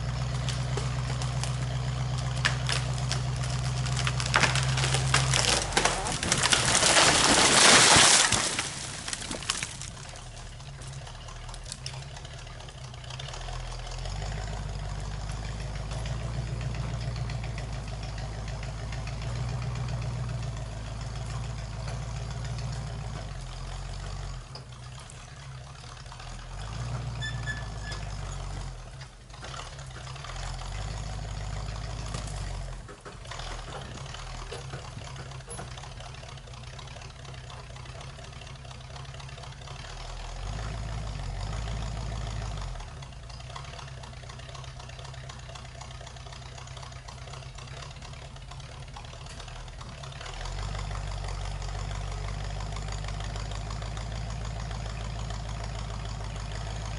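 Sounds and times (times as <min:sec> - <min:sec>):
engine running: 0:00.0 - 0:56.9.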